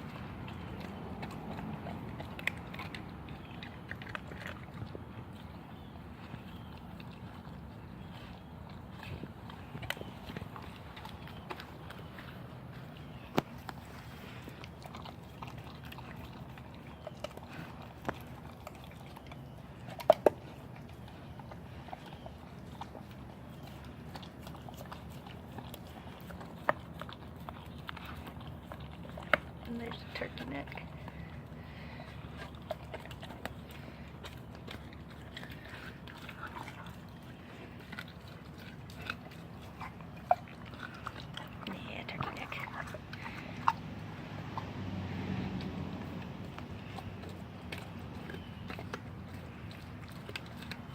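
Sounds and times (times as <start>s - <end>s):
puppy chewing meat and bone: 0.0s - 50.9s.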